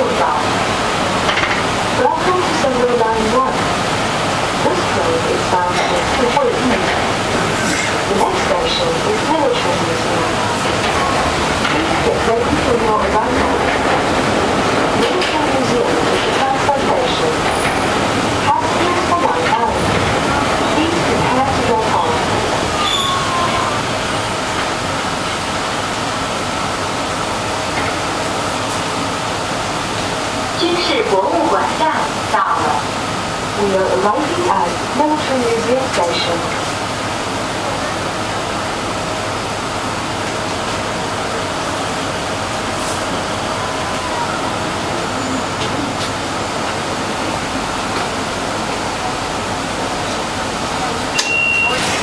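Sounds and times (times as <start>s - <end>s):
wheels rumbling on rail: 0.0s - 52.0s.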